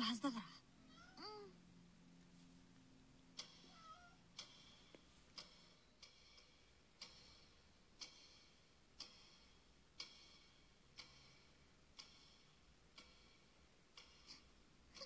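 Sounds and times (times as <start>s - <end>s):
wall clock ticking: 0.0s - 15.0s.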